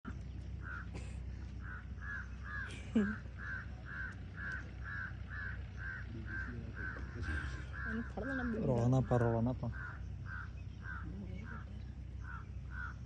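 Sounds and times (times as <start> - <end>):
bird cawing: 0.1 - 13.0
low steady rumble: 0.1 - 13.0.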